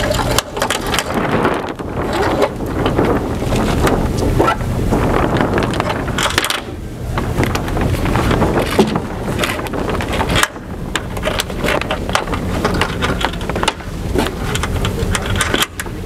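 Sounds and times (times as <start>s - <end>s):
rigging hardware clicks and rattles: 0.0s - 16.0s
wind buffeting microphone: 0.0s - 16.0s.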